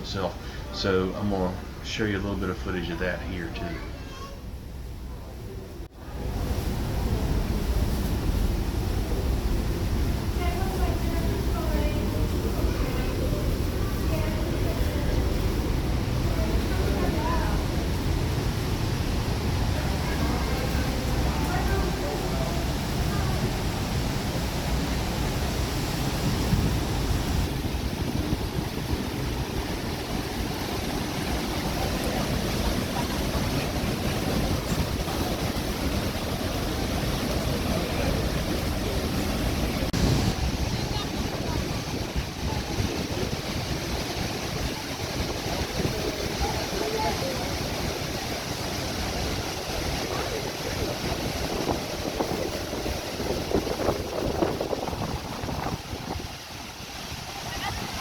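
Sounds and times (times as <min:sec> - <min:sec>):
waterfall roaring: 0:00.0 - 0:58.0
wind buffeting microphone: 0:06.1 - 0:58.0.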